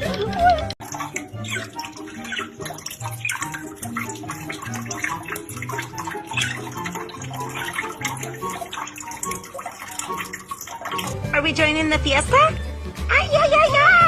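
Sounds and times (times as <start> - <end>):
music playing: 0.0 - 14.0
running water splashing: 0.0 - 14.0.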